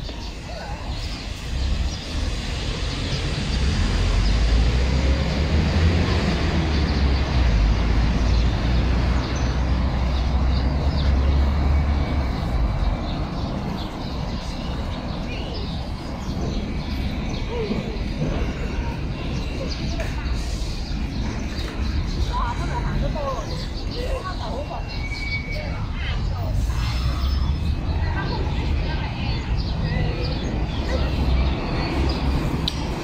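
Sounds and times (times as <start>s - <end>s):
deep city rumble: 0.0s - 33.0s.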